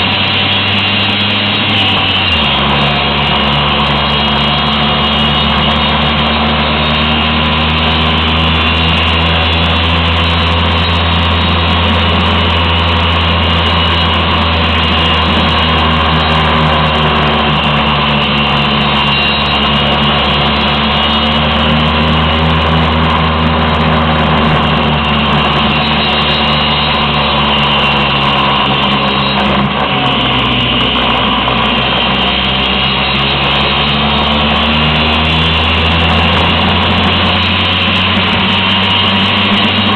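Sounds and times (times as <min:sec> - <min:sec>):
scooter engine running under load: 0:00.0 - 0:39.9.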